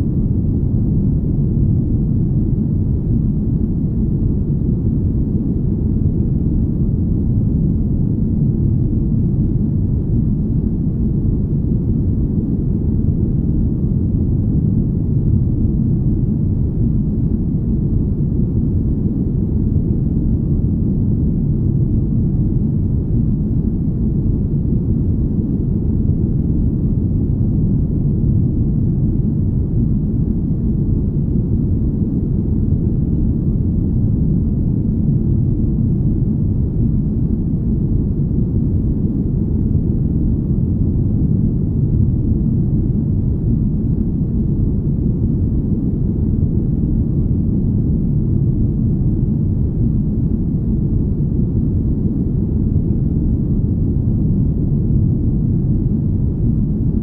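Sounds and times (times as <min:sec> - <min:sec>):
deep low rumble: 0:00.0 - 0:57.0.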